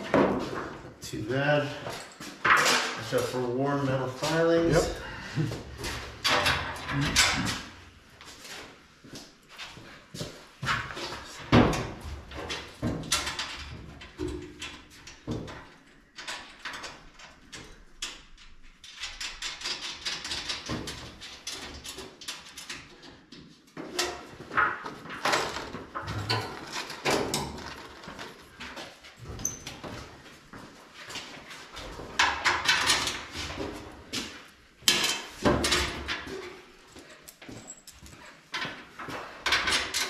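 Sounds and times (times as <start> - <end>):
knocks clanks and scraping: 0.0 - 8.8, 10.6 - 30.3, 30.9 - 40.0.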